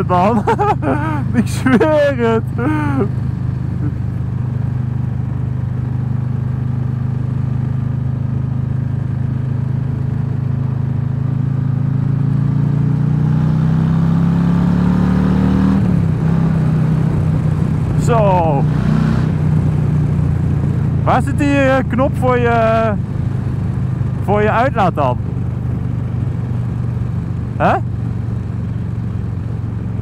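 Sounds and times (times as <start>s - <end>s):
motorcycle engine running: 0.0s - 13.8s, 19.3s - 30.0s.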